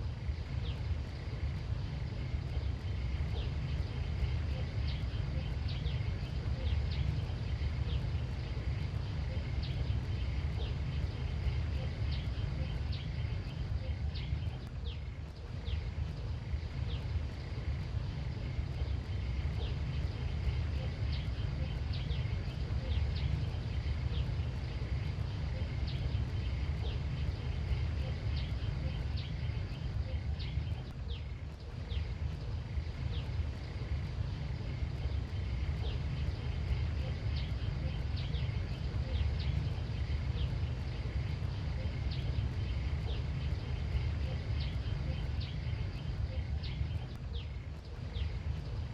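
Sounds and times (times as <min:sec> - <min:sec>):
faint high hum: 0:00.0 - 0:48.9
low rumble: 0:00.0 - 0:48.9.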